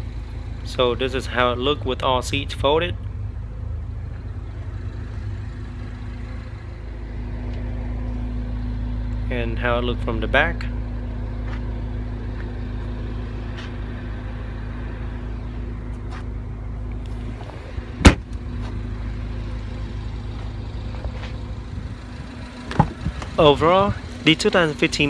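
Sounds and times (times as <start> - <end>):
vehicle mechanical hum: 0.0 - 25.0.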